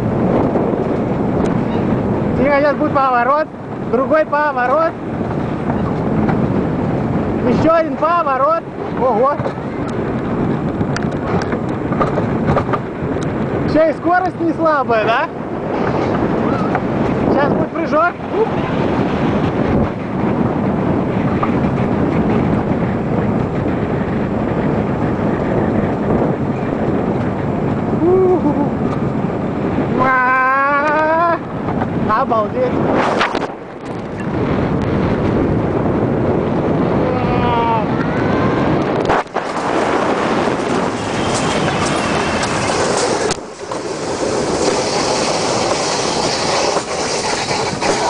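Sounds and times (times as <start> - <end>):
bobsled wheels rumbling on rails: 0.0 - 30.0, 30.8 - 48.0
wind buffeting microphone: 0.0 - 48.0.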